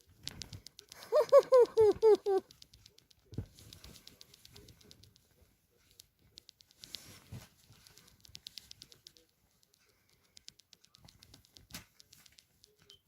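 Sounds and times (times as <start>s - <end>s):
kitten claws scratching: 0.0s - 13.0s.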